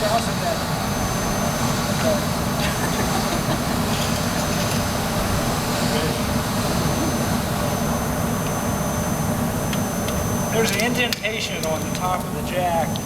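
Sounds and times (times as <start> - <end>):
high-pitched whine: 0.0 - 13.0.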